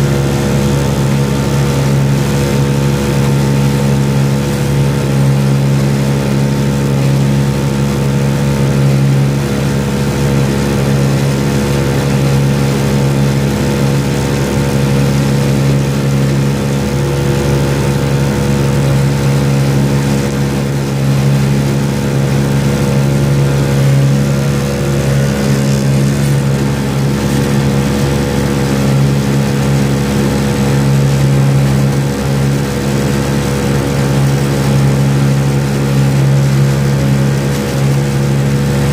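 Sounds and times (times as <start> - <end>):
boat motor droning: 0.0 - 38.9.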